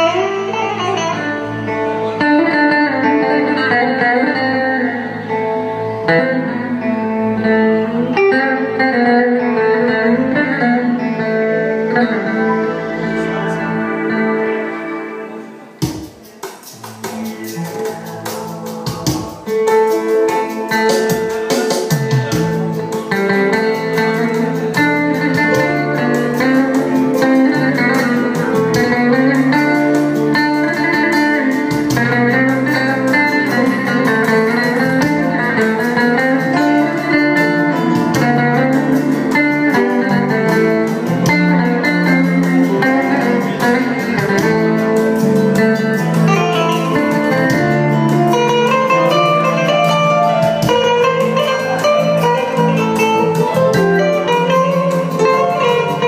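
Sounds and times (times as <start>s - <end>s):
plucked string instrumental music: 0.0s - 56.0s.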